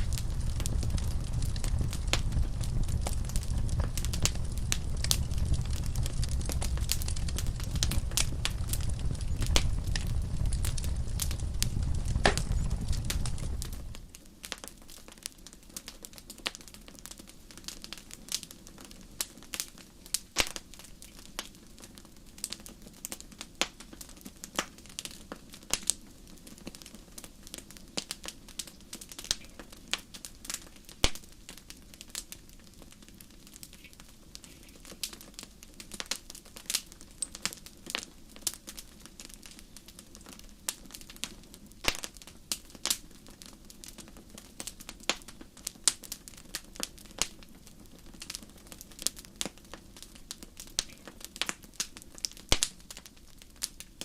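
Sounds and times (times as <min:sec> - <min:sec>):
faint fire hiss: 0:00.0 - 0:54.0
wood fire crackling: 0:00.0 - 0:54.0.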